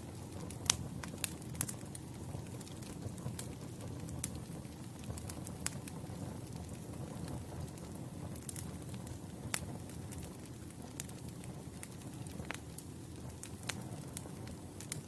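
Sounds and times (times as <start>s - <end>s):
burning logs crackling and popping: 0.0s - 15.0s
campfire flames rustling: 0.0s - 15.0s.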